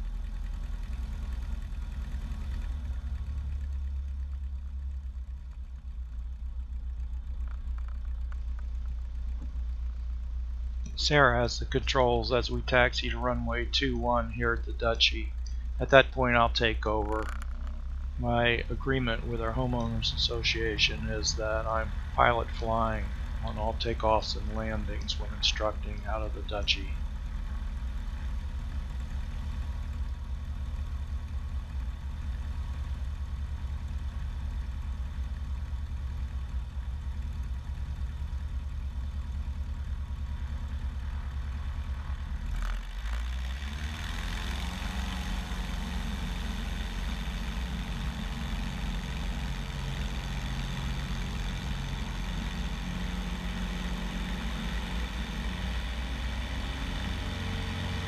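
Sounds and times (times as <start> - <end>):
airplane engine and propeller: 0.0 - 58.0.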